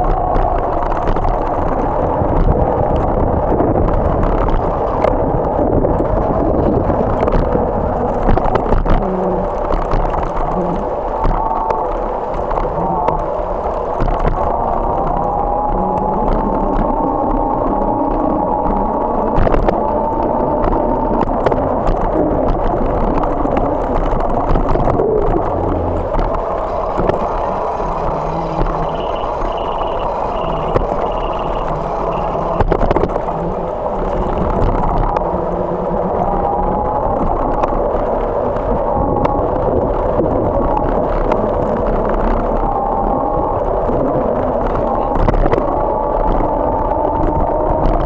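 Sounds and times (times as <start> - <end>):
bicycle tyres rumbling: 0.0 - 48.0.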